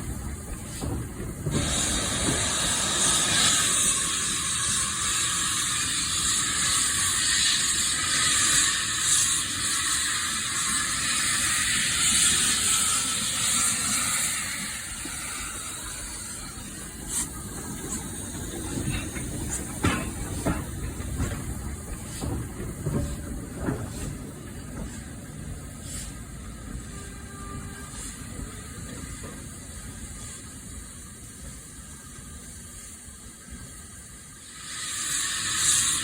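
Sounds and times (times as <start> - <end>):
steam locomotive hissing: 0.0 - 36.0.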